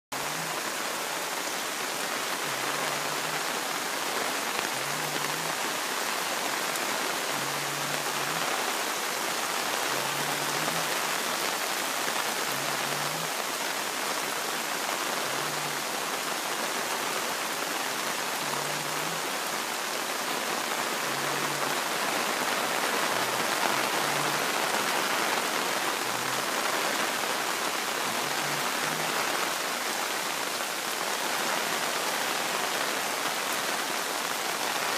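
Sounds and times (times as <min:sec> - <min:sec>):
creek water rushing: 0:00.1 - 0:34.9.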